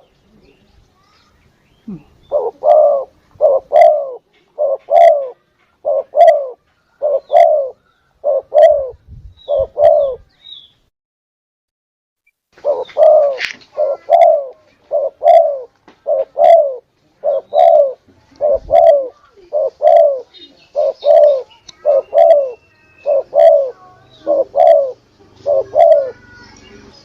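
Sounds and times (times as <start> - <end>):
dove cooing: 1.9 - 10.3, 12.6 - 26.5.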